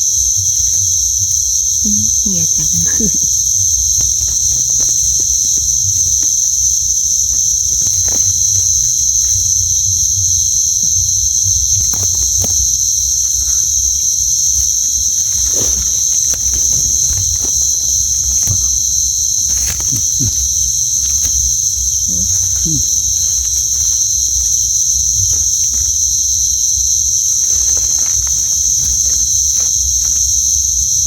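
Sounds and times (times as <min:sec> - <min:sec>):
crickets chorus ringing drone: 0:00.0 - 0:31.0
faint clicks and rustles: 0:00.0 - 0:31.0.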